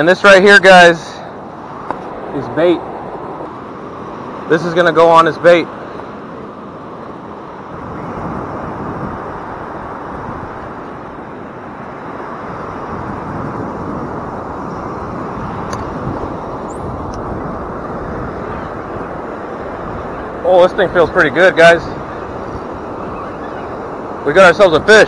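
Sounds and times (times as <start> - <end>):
waves breaking on beach: 0.5 - 25.0.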